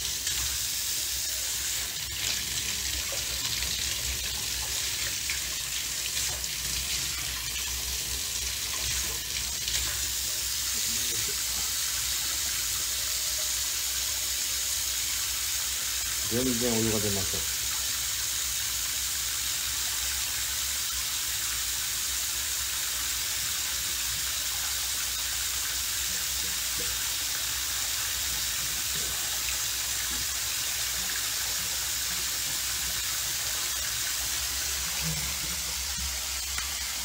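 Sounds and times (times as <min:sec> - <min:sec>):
tap water running: 0:00.0 - 0:37.0.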